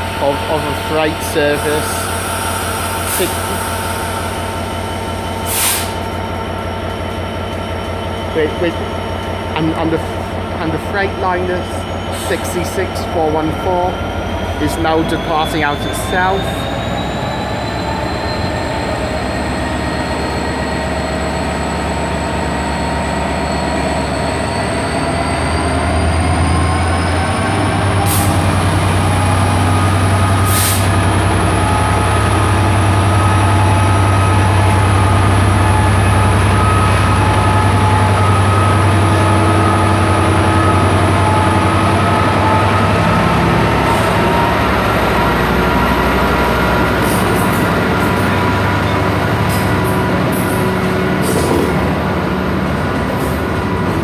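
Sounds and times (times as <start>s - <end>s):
diesel locomotive drone: 0.0s - 54.0s.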